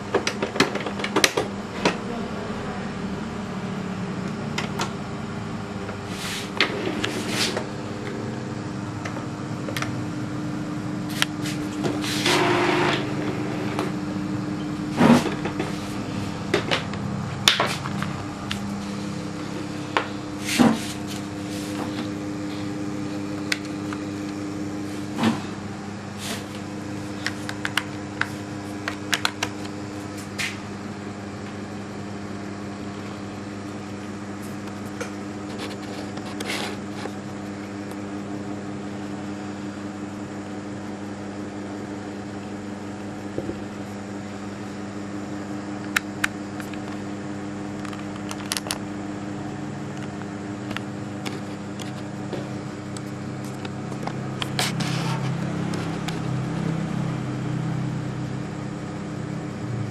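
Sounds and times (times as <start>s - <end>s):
printer whirring: 0.0s - 59.9s
steady low hum: 0.0s - 59.9s.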